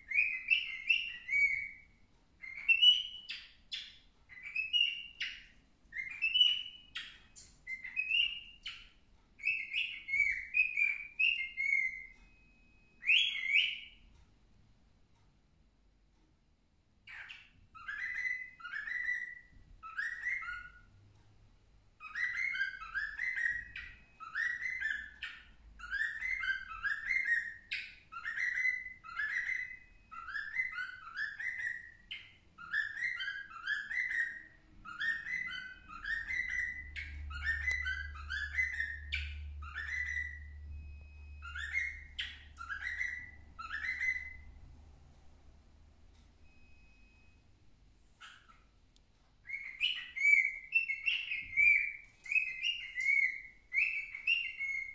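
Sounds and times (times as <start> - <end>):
cockatiel whistling: 0.0 - 14.0, 17.1 - 21.0, 22.0 - 44.6, 48.2 - 48.7, 49.4 - 54.9.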